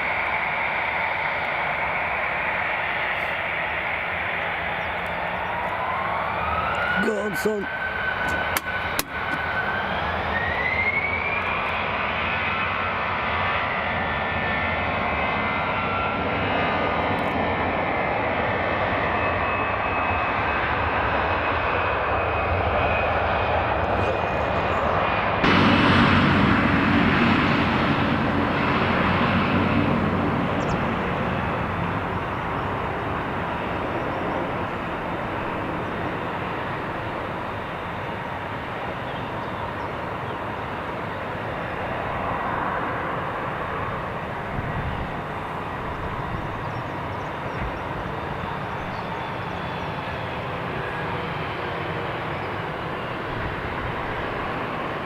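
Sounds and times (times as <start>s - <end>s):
jet engines spooling up: 0.0s - 55.0s
rising engine whine: 0.0s - 55.0s.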